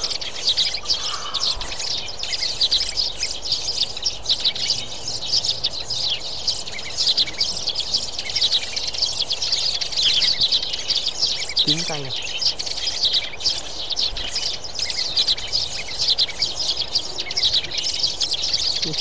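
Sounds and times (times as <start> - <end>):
sparrows chirping: 0.0 - 19.0.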